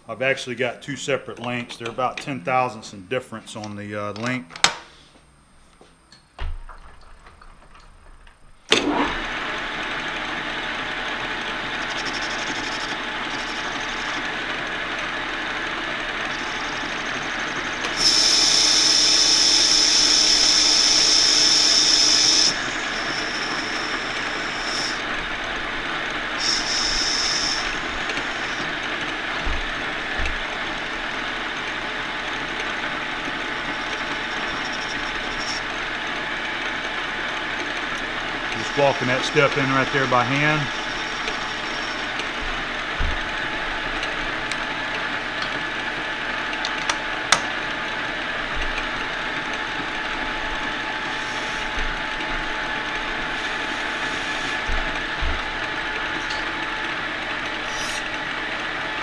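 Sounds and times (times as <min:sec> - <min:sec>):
metal lathe running: 0:08.7 - 0:59.0
high-pitched cutting whine: 0:10.5 - 0:59.0.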